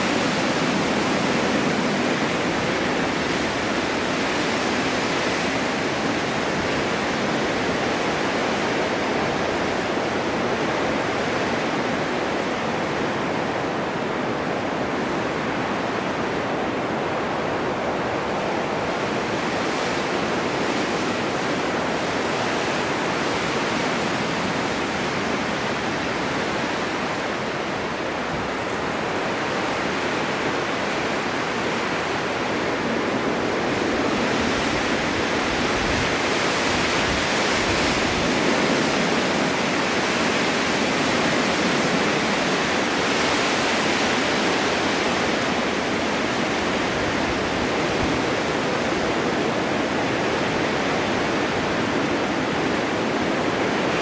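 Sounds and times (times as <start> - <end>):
wind blowing in snowstorm: 0.0 - 54.0.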